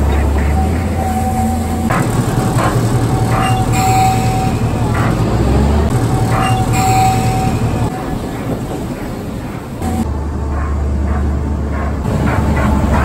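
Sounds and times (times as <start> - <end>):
diesel train engine running: 0.0 - 13.0
running gear clanking: 0.0 - 13.0.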